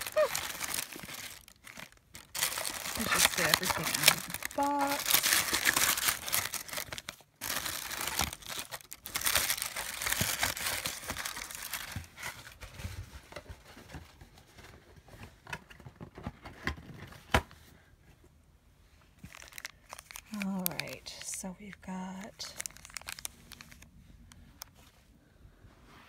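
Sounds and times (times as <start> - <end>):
paper and packaging crinkling: 0.0 - 17.4, 19.2 - 25.0.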